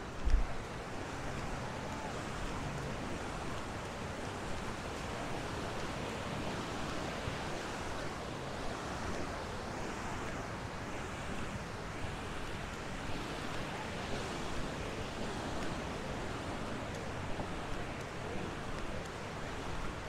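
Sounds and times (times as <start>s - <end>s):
ocean waves breaking on beach: 0.0s - 20.0s.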